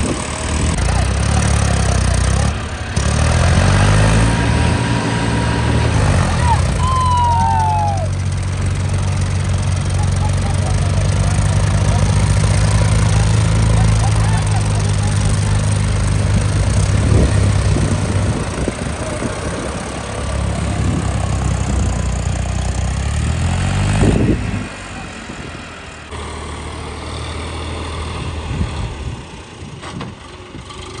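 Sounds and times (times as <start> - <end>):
tractor engines labouring: 0.0 - 31.0.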